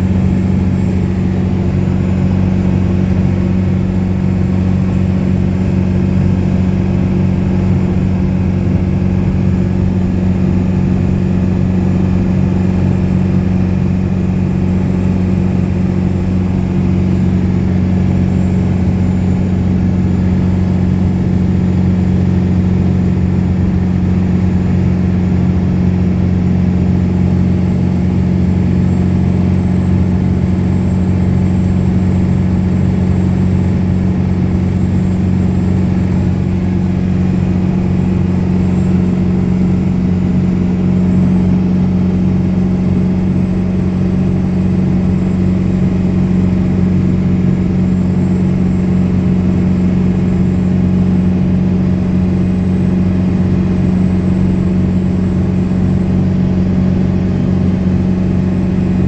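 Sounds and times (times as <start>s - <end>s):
diesel engine droning under load: 0.0s - 59.0s.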